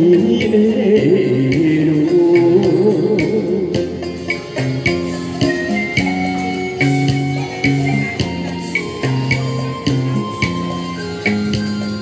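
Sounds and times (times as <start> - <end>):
plucked guitar: 0.0 - 12.0.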